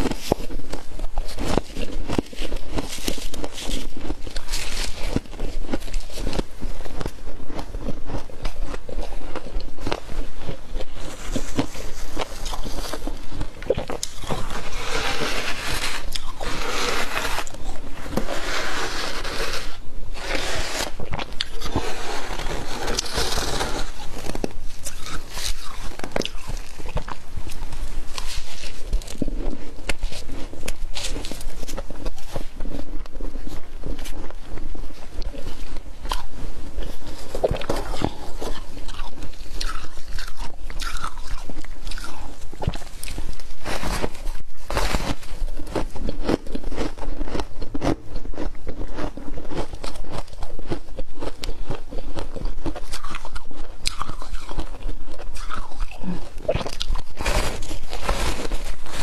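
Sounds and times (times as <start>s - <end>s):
frost crunching and scraping: 0.0s - 59.0s.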